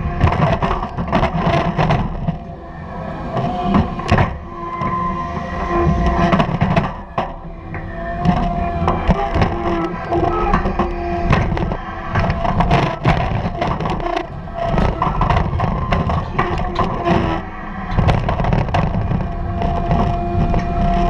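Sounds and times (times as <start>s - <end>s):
logs knocking and cracking: 0.0s - 2.5s, 3.4s - 21.0s
diesel loader hydraulic whine: 2.4s - 21.0s.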